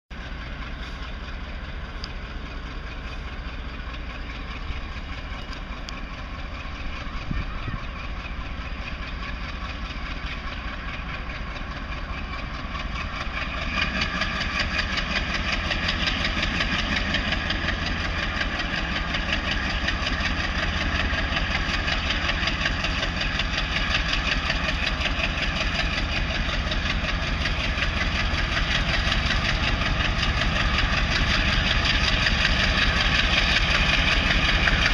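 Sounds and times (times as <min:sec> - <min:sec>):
diesel locomotive engine running: 0:00.1 - 0:34.9.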